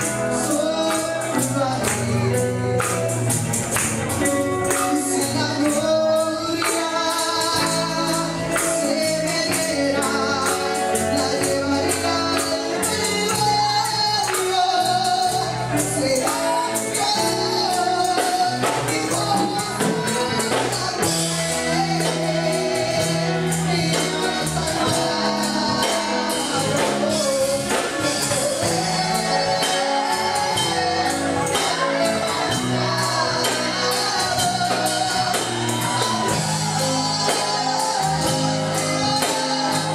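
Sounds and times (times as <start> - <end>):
praise music with singing: 0.0 - 39.9.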